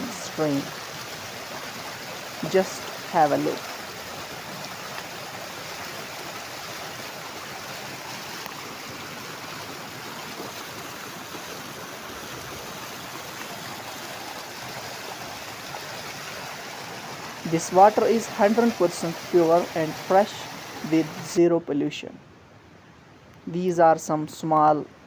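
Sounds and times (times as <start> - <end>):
stream rushing over rocks: 0.0 - 21.5.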